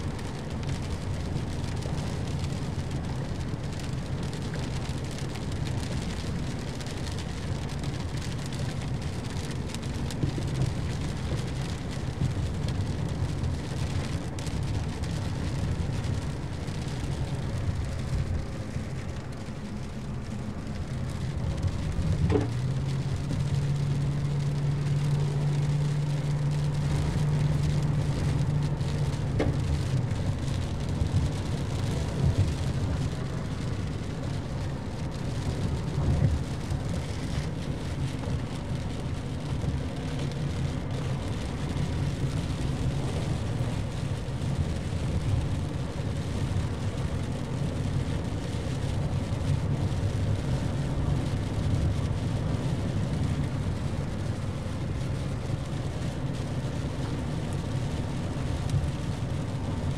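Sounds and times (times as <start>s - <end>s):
engine and tyre hum on wet road: 0.0s - 59.9s
rain on windshield: 0.0s - 59.9s.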